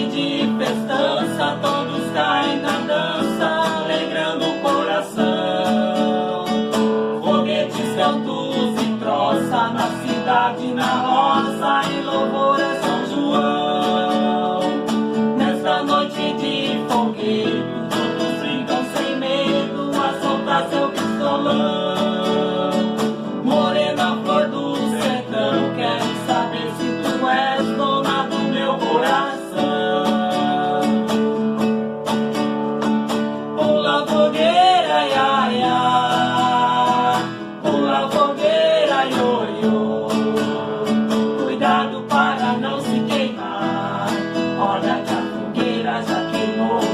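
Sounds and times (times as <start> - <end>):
acoustic guitar strummed and plucked: 0.0 - 46.9.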